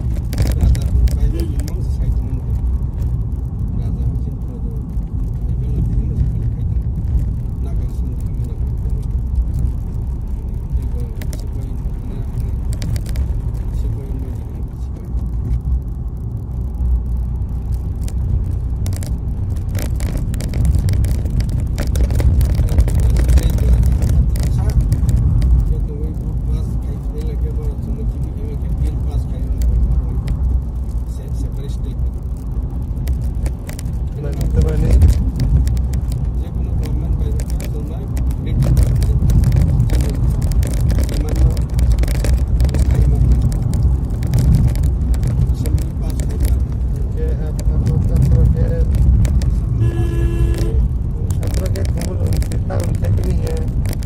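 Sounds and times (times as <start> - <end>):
vehicle engine and tyre rumble: 0.0 - 54.0.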